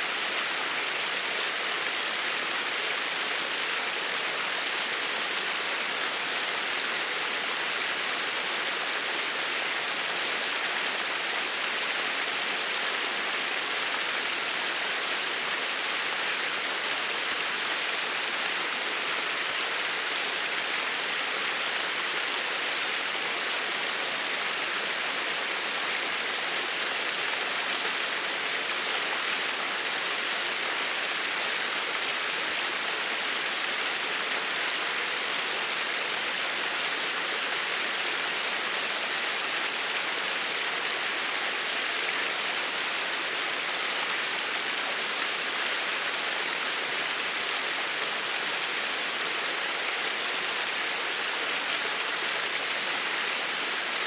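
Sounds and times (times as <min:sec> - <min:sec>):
steady hiss of noise: 0:00.0 - 0:54.0.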